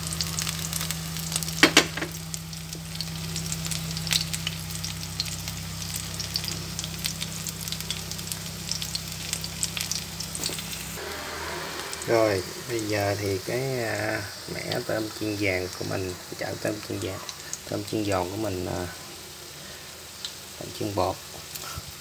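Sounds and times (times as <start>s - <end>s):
steady low hum: 0.0s - 20.2s
oil sizzling and crackling: 0.0s - 22.0s.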